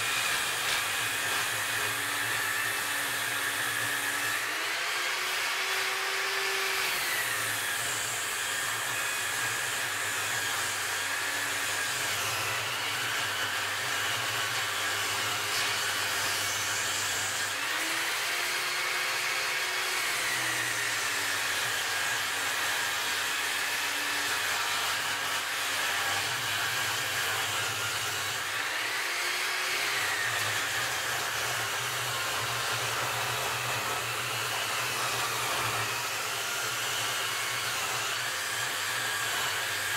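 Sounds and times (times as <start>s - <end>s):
table saw whining: 0.0s - 39.9s.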